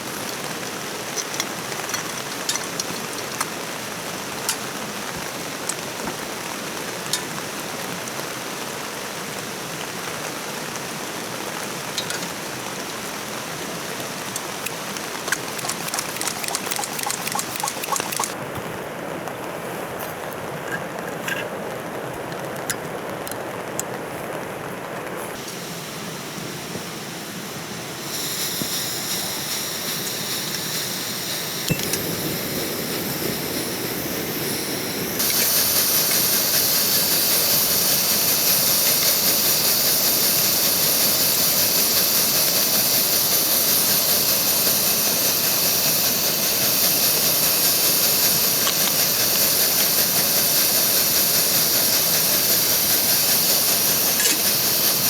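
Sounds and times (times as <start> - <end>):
steady hissing rush: 0.0 - 18.4, 25.3 - 55.0.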